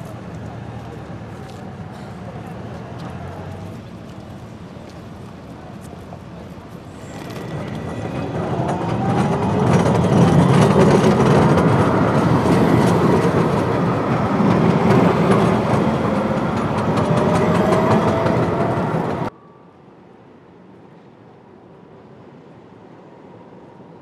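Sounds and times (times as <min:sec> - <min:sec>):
tram wheels rumbling on rails: 0:00.0 - 0:19.4.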